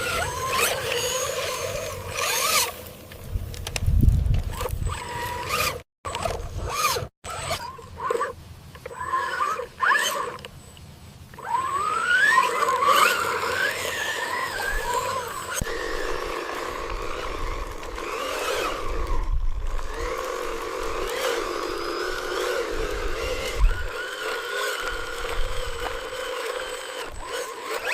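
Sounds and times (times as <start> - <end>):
small electric motors whining: 0.0 - 10.5, 11.3 - 27.9.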